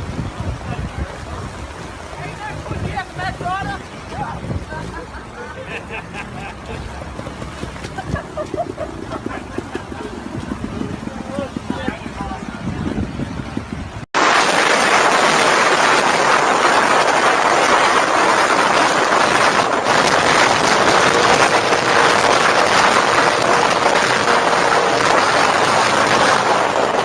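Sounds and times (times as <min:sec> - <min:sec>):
vehicle rushing noise: 0:00.0 - 0:27.0.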